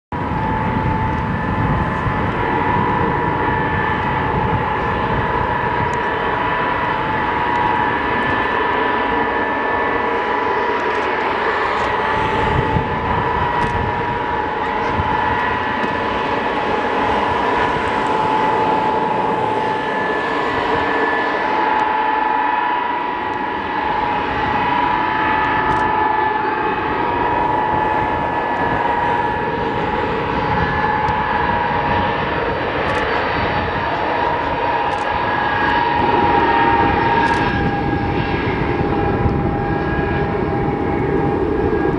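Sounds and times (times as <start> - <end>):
high-pitched jet whine: 0.1 - 41.9
jet exhaust rush: 0.2 - 41.9.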